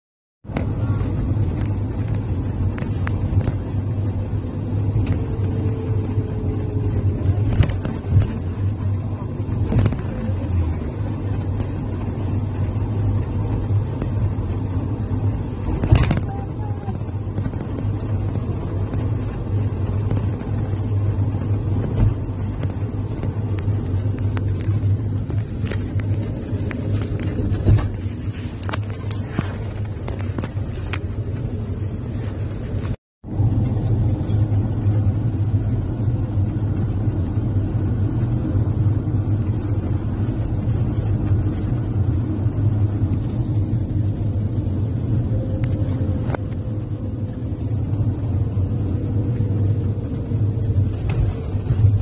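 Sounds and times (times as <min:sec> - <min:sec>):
bus engine and road rumble: 0:00.4 - 0:52.0.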